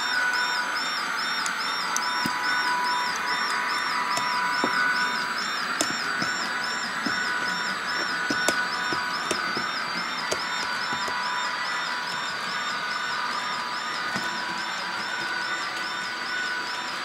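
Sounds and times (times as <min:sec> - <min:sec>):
model train motor whine: 0:00.0 - 0:17.0
warbling high tone: 0:00.0 - 0:17.0.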